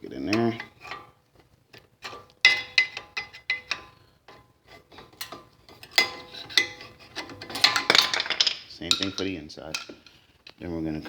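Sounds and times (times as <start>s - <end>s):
pry bar clinking and scraping metal: 0.1s - 10.6s.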